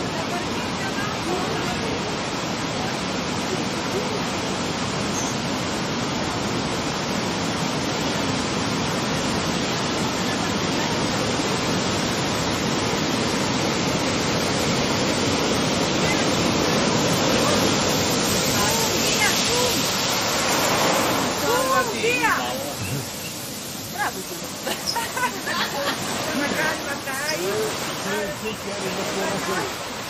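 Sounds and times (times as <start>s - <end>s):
water rushing and breaking: 0.0s - 30.0s.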